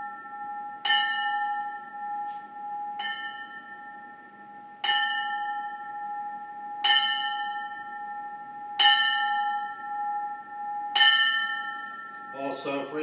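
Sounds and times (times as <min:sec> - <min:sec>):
ship's bell tolling: 0:00.0 - 0:13.0.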